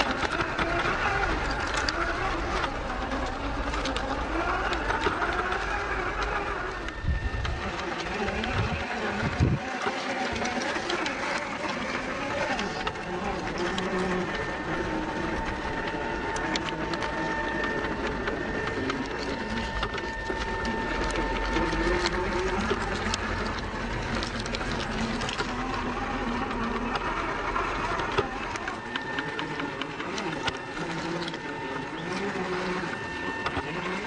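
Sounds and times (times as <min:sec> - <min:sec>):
electric motor whirring: 0:00.0 - 0:34.0
tyres crunching on gravel: 0:00.0 - 0:34.0.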